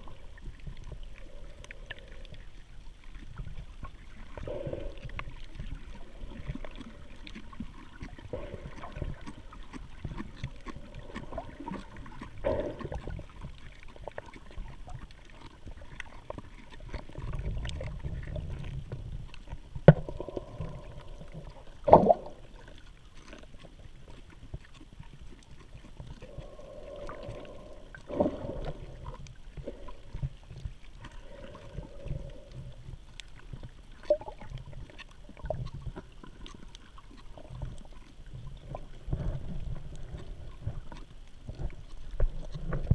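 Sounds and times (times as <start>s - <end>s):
muffled underwater rumble: 0.0s - 42.9s.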